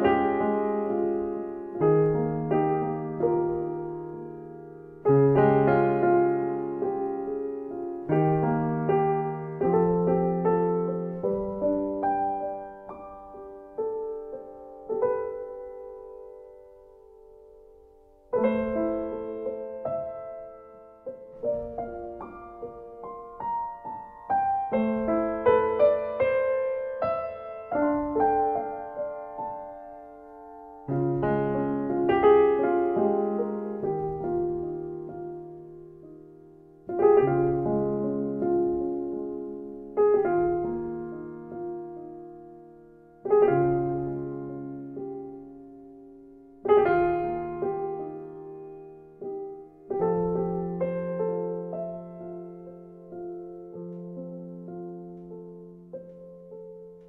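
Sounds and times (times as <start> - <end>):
slow solo piano music: 0.0 - 57.0.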